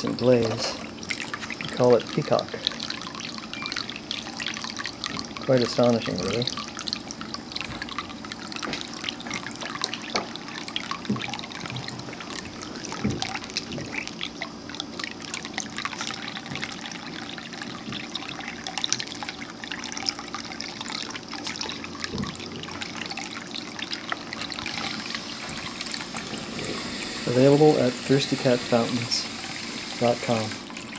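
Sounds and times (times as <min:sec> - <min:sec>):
water trickling into bowl: 0:00.0 - 0:30.9.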